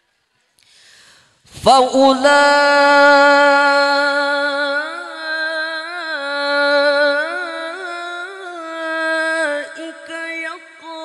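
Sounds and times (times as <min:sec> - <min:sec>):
man reciting melodically into microphone: 0:01.4 - 0:11.0.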